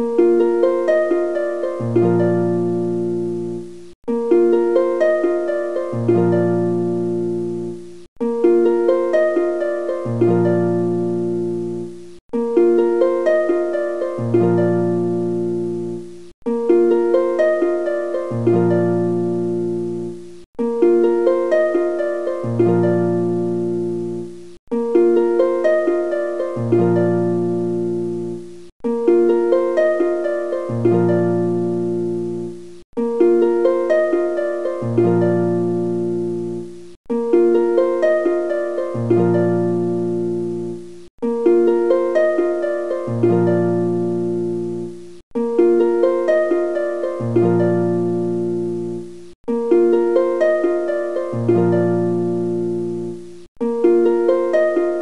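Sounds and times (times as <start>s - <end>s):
looping plucked notes music: 0.0s - 55.0s.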